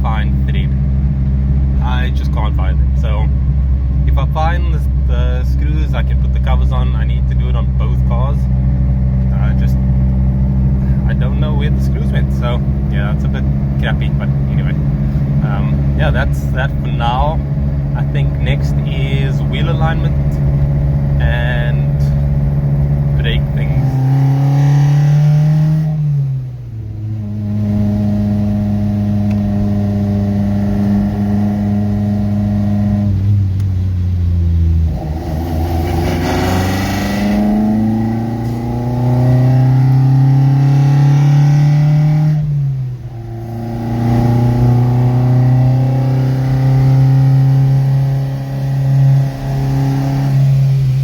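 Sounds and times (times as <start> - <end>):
car engine running while driving: 0.0 - 51.0.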